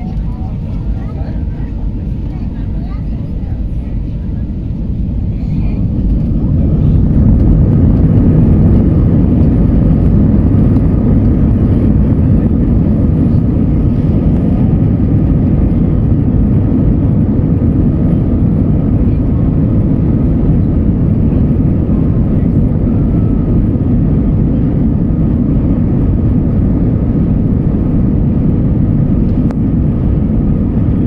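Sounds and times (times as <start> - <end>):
jet engines roaring in cabin: 0.0 - 31.0.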